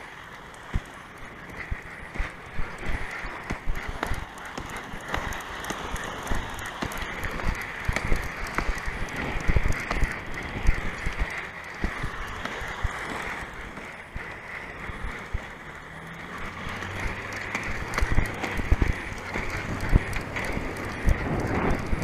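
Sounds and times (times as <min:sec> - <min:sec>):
skate wheels rolling on asphalt: 0:00.0 - 0:22.0.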